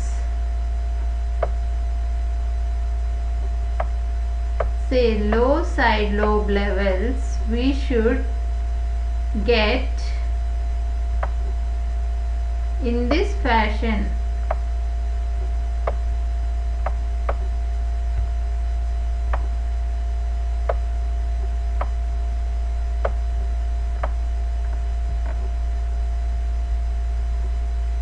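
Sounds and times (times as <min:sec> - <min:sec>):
electrical mains hum: 0:00.0 - 0:28.0
faint whine tones: 0:00.0 - 0:28.0.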